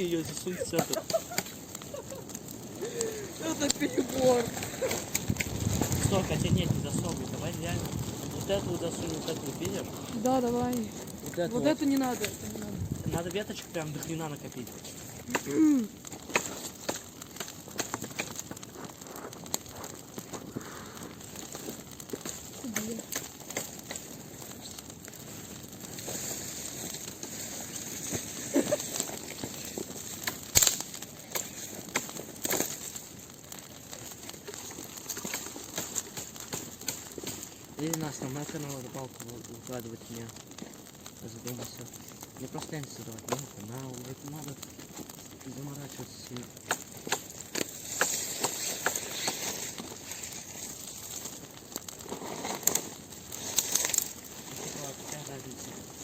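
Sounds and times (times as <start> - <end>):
dry twigs snapping: 0.0 - 39.7, 40.3 - 56.0
bonfire hissing: 0.0 - 56.0
fire crackling and popping: 0.0 - 56.0.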